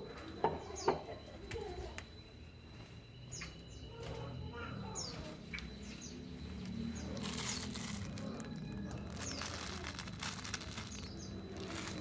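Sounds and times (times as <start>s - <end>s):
lovebird chirping: 0.6s - 12.0s.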